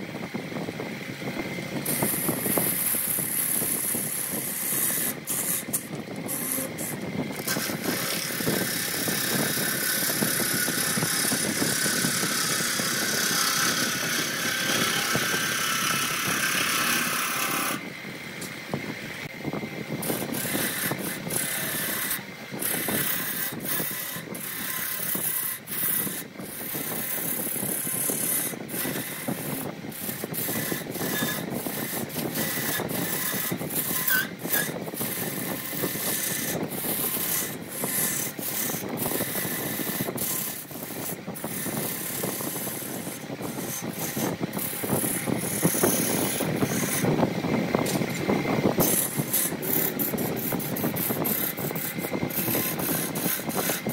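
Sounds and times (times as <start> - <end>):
lathe tool scraping wood: 1.8 - 18.5, 20.0 - 53.9.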